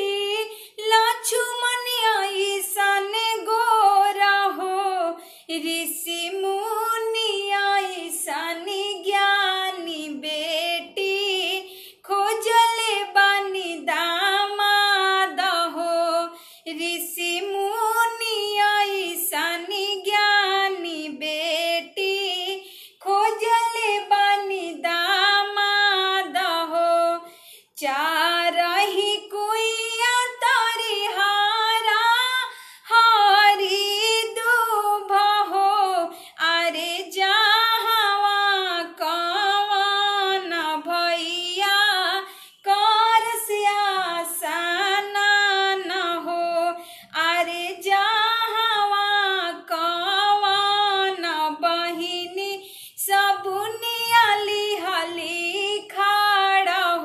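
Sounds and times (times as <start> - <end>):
woman singing unaccompanied: 0.0 - 57.0.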